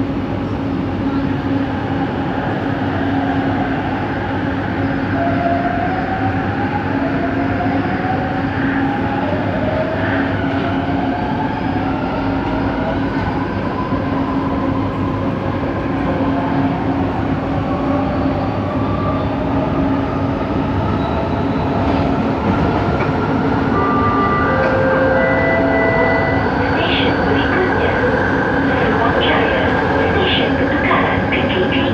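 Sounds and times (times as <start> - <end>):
light rail train hum: 0.0 - 31.9.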